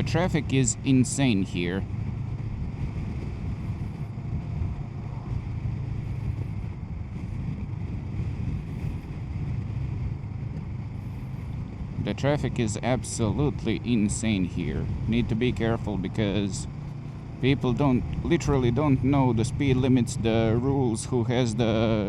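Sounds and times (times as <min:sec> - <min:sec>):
motorcycle engine running: 0:00.0 - 0:22.0
wind rush: 0:00.0 - 0:22.0.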